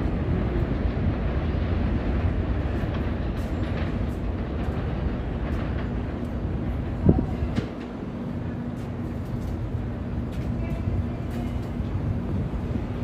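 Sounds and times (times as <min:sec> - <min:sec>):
train rumbling along tracks: 0:00.0 - 0:13.0.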